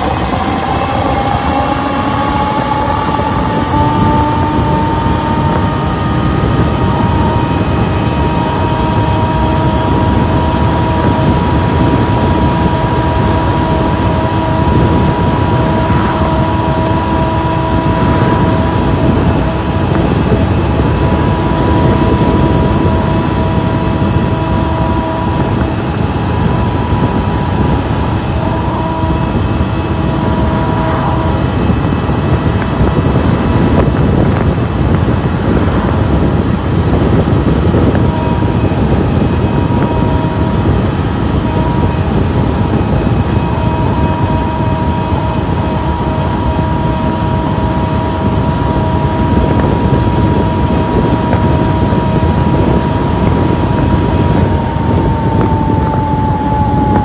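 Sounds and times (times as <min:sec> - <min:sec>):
electric motor whining: 0:00.0 - 0:57.0
wind rush on microphone: 0:00.0 - 0:57.0.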